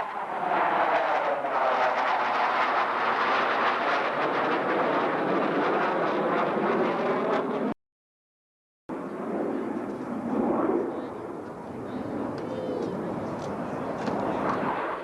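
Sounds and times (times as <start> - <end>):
jet engines flying past: 0.0 - 7.8, 8.9 - 15.0.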